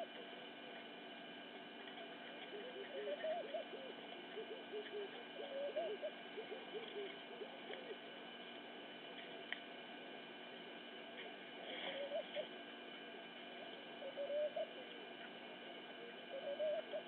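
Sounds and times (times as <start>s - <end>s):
birds calling: 0.0s - 9.7s, 11.5s - 12.7s, 13.3s - 17.0s
faint high hum: 0.0s - 17.0s.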